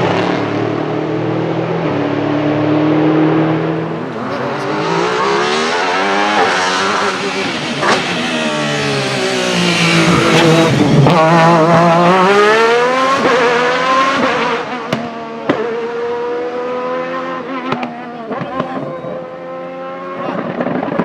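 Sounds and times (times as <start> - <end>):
racing engine at high revs: 0.0 - 21.0.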